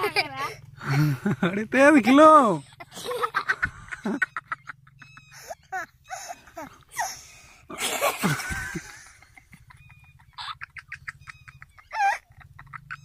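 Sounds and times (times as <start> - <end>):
boys laughing: 0.0 - 13.0.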